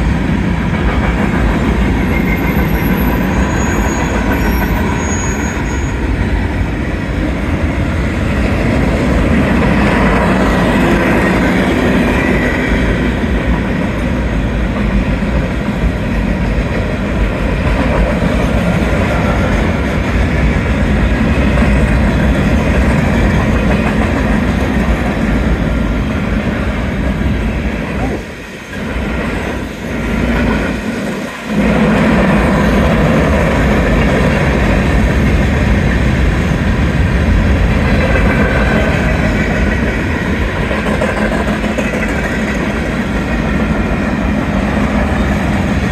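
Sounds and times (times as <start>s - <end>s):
freight train wheels clattering: 0.0s - 45.9s.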